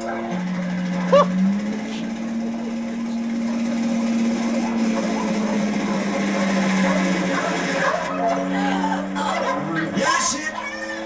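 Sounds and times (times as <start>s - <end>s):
helicopter engine and rotor: 0.0s - 11.0s.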